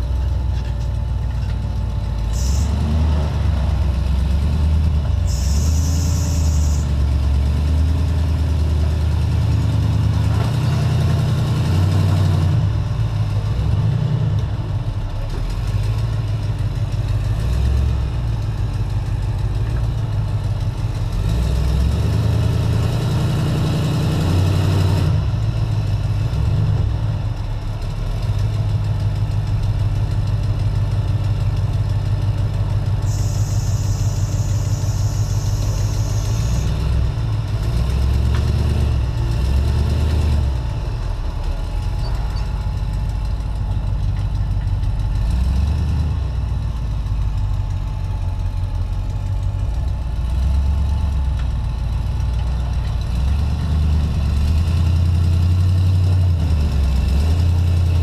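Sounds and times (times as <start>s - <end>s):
engine running at low revs: 0.0s - 58.0s.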